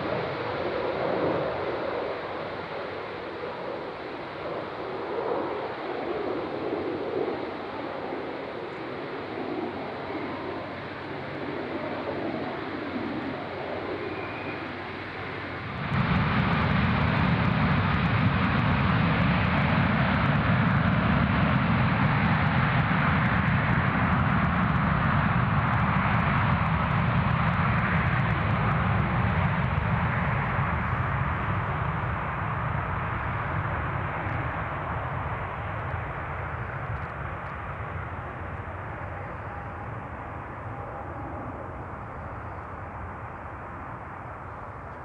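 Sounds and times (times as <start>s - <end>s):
jet engines roaring at takeoff: 0.0s - 45.0s.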